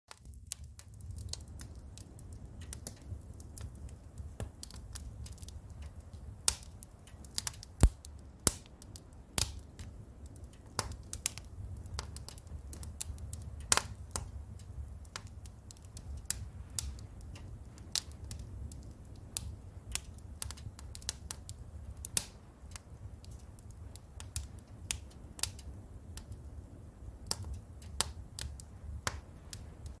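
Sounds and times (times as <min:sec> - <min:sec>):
wood fire crackling: 0:00.1 - 0:30.0
steady low rumble: 0:00.5 - 0:30.0.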